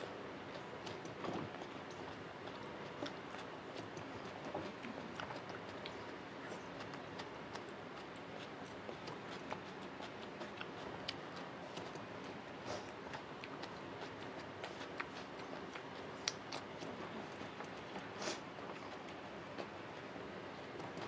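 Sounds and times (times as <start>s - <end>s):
chewing and mouth noises: 0.0s - 21.0s.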